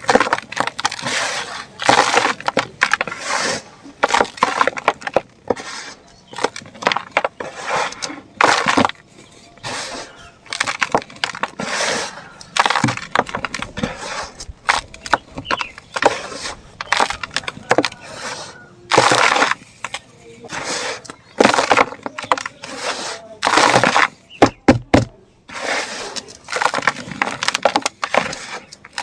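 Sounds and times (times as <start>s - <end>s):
dried cement clumps crumbling: 0.0s - 29.0s.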